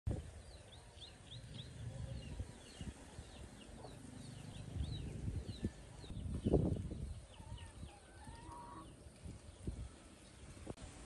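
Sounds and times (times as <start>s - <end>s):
low outdoor rumble: 0.1s - 11.0s.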